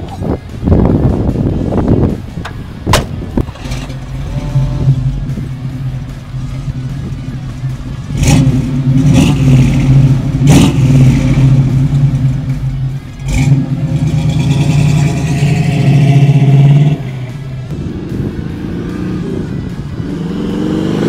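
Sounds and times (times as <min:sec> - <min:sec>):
car engine accelerating: 0:00.8 - 0:21.0.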